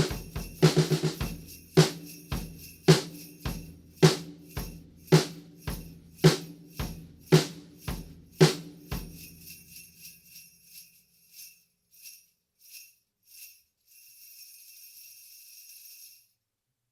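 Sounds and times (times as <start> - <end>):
sleigh bells jingling: 0.0 - 16.4.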